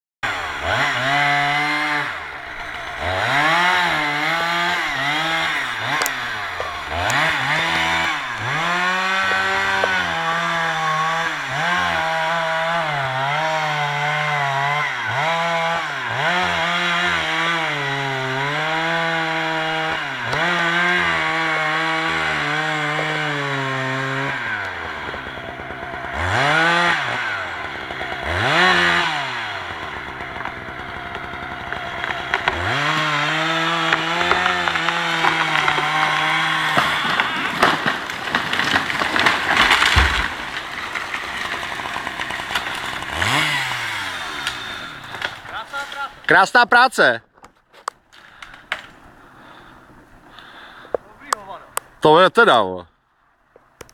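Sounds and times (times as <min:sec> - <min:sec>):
chainsaw cutting timber: 0:00.2 - 0:46.4, 0:47.7 - 0:51.6.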